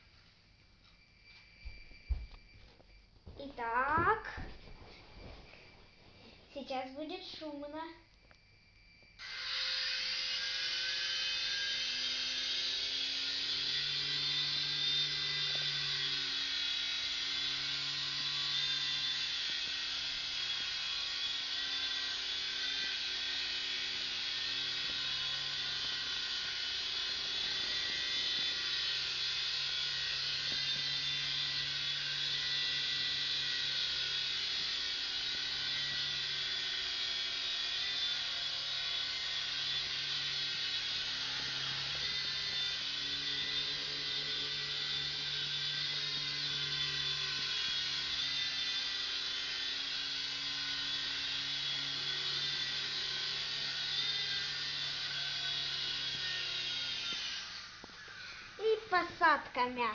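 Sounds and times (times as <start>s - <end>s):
toy helicopter whirring: 0.0s - 4.6s, 6.2s - 59.9s.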